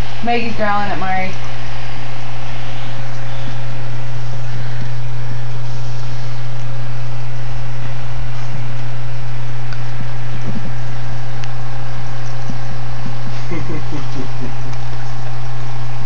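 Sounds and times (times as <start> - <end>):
loud steady low hum: 0.0 - 16.0.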